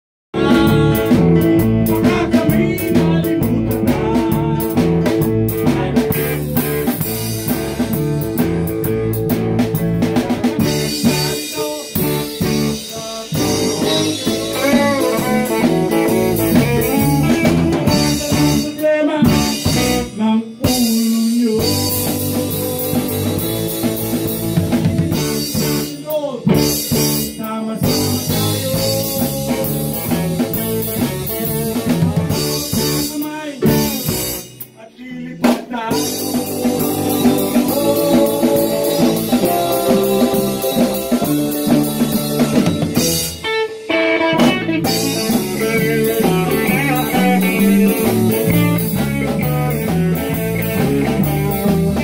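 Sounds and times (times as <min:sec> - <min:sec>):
electric guitars: 0:00.3 - 0:52.0
person singing: 0:00.4 - 0:07.9, 0:10.2 - 0:24.4, 0:25.5 - 0:52.0
drum beat: 0:00.4 - 0:20.0, 0:21.6 - 0:27.3, 0:35.4 - 0:52.0
electric keyboard: 0:00.4 - 0:20.2, 0:21.6 - 0:34.6, 0:35.9 - 0:52.0.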